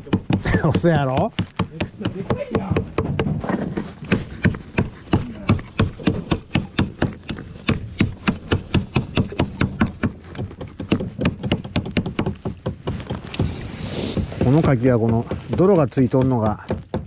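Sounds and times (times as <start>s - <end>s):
hatchet striking oyster shells: 0.0s - 3.3s, 4.1s - 12.9s, 14.4s - 17.0s.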